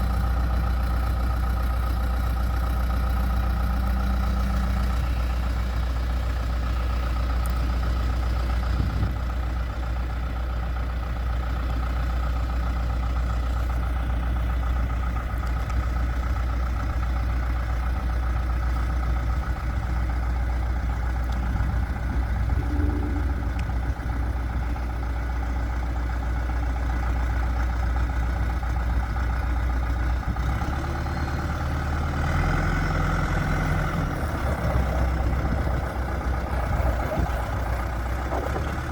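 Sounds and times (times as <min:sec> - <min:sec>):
backhoe diesel engine idling: 0:00.0 - 0:38.9.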